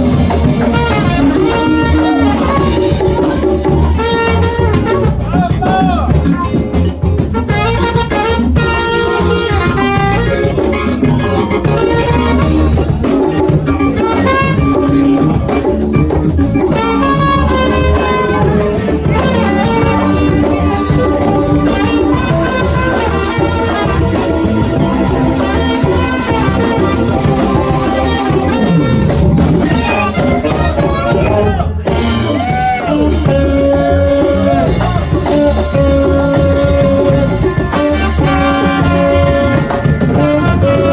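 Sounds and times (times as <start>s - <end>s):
funk band playing: 0.0s - 40.9s.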